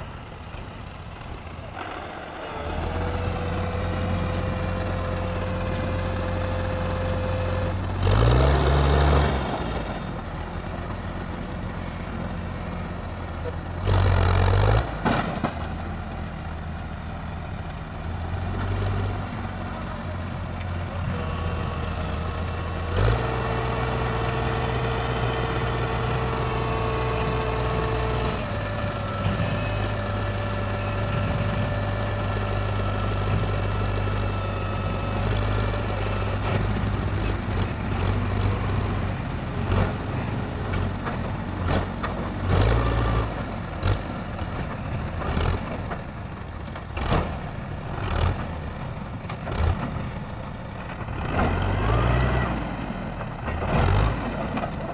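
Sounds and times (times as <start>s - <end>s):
diesel tractor engine: 0.0s - 54.9s
engine knocks and surges: 0.0s - 54.9s.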